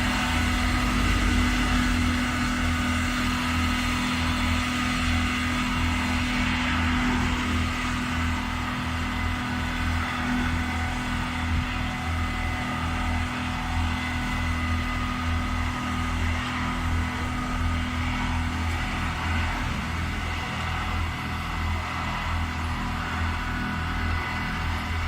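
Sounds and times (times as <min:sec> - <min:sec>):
pulsing engine hum: 0:00.0 - 0:25.0.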